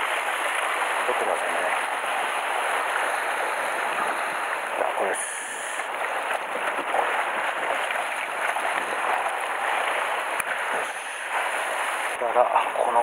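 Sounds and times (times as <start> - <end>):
sea water washing over rocks: 0.0 - 13.0.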